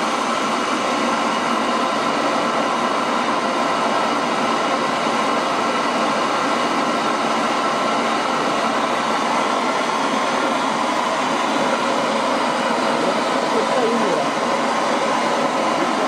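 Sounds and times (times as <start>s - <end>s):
small jet engine running: 0.0s - 16.0s.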